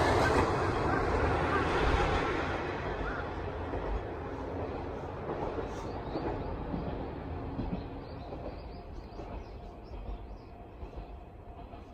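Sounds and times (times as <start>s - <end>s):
diesel railcar rumbling past: 0.0s - 11.9s.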